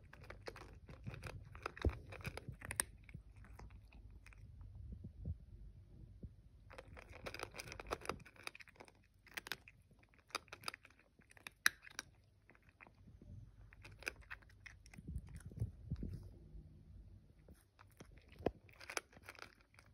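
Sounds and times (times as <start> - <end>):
cat crunching dry kibble: 0.0 - 4.7, 6.6 - 16.3, 17.4 - 19.9.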